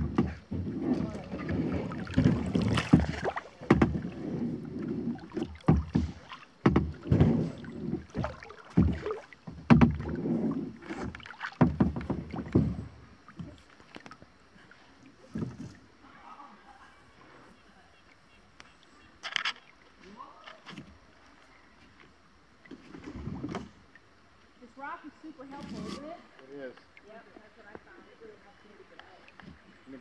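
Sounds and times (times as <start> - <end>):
paddle splashing in water: 0.0 - 30.0.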